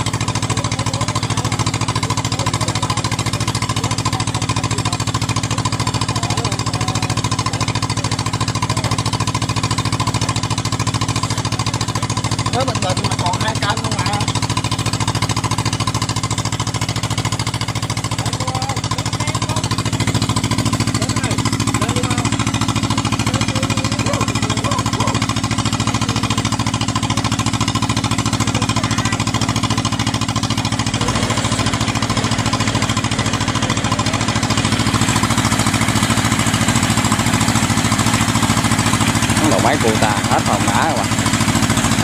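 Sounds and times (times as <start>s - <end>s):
diesel engine chugging: 0.0s - 42.0s.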